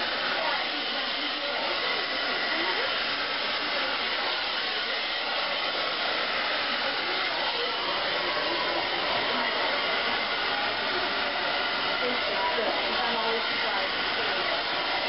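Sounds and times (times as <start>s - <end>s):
blow dryer running: 0.0s - 15.0s.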